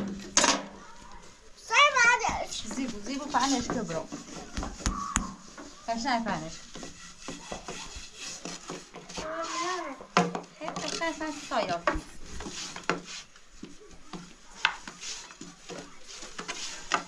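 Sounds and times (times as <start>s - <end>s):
wooden things and dishes clattering: 0.0s - 1.4s, 2.0s - 17.0s.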